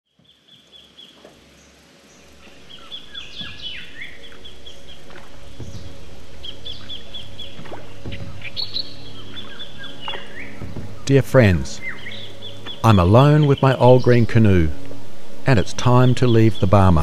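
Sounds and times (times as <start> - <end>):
birds chirping and whistling: 0.2 - 17.0
low steady drone: 1.4 - 17.0.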